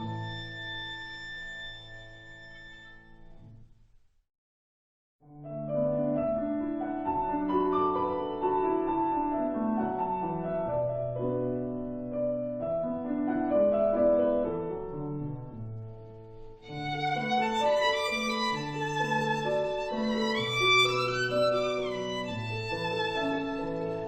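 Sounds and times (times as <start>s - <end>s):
slow string and piano music: 0.0s - 3.5s, 5.3s - 24.0s.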